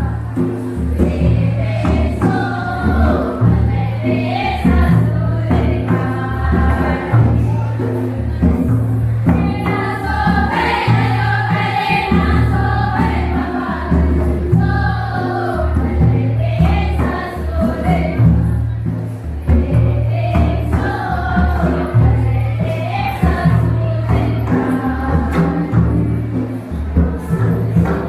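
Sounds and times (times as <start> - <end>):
voices singing together: 0.0 - 28.0.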